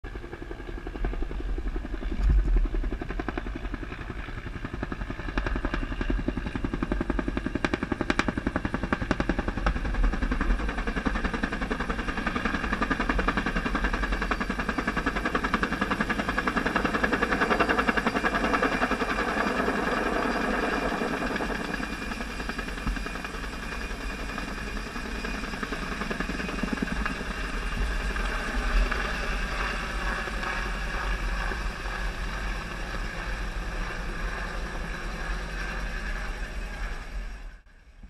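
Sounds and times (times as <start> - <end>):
helicopter rotor beating: 0.1 - 37.6.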